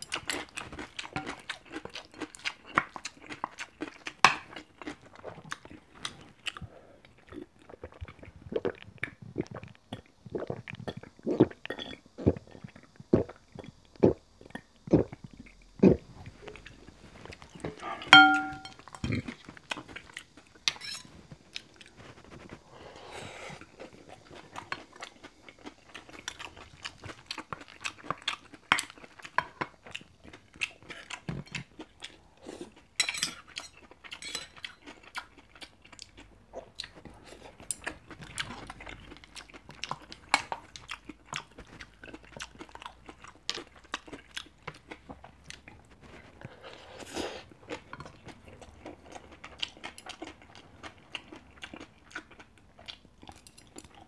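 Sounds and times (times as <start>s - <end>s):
chewing with wet smacks: 0.1s - 18.3s, 23.8s - 46.5s, 47.4s - 54.0s.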